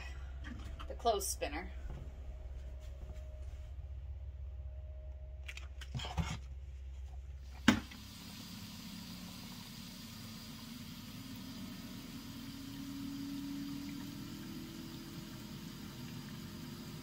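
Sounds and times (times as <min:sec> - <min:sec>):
spin dryer motor hum: 0:00.0 - 0:17.0.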